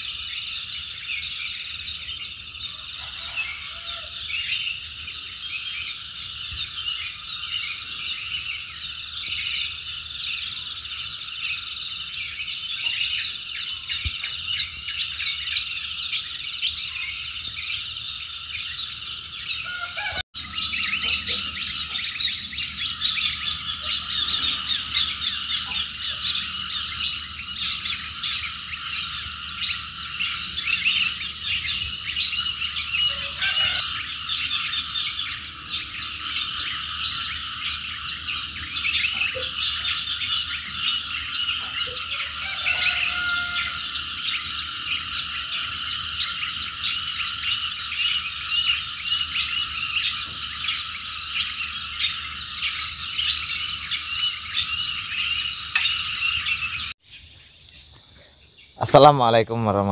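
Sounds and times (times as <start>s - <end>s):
birds calling: 0.0s - 59.9s
frogs chirping and trilling: 0.0s - 59.9s
insects chirping: 0.0s - 59.9s.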